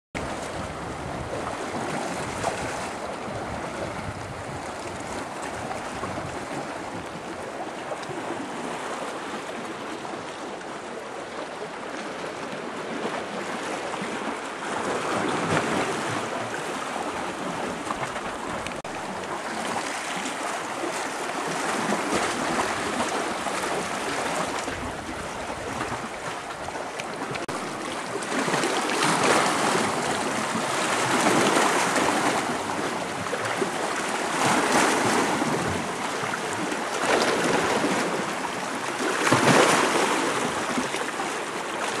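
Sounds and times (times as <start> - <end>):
small waves washing over rocks: 0.2 - 42.0.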